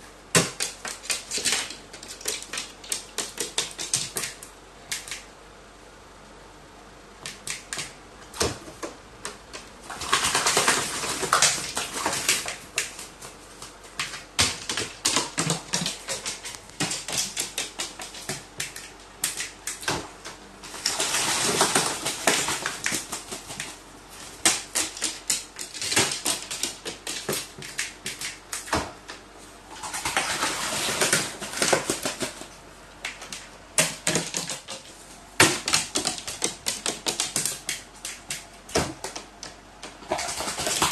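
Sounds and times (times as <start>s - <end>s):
bird splashing and wing-beating: 0.4s - 5.2s, 9.5s - 29.0s, 29.7s - 39.3s, 39.9s - 40.9s.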